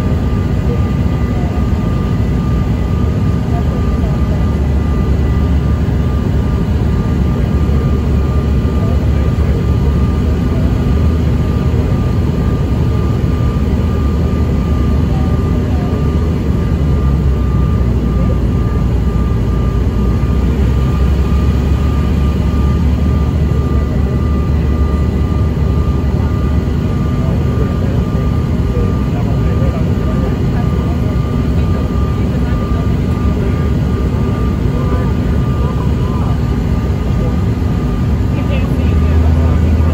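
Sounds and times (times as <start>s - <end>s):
low rumble of airflow and engines: 0.0s - 39.9s.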